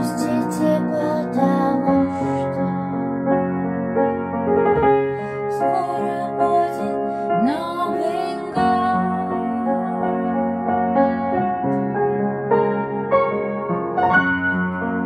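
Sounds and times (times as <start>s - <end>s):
upright piano playing: 0.0s - 15.0s.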